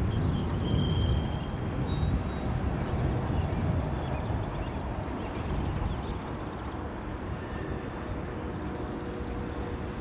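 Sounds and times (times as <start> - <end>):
steel wheels rumbling on rail: 0.0 - 10.0.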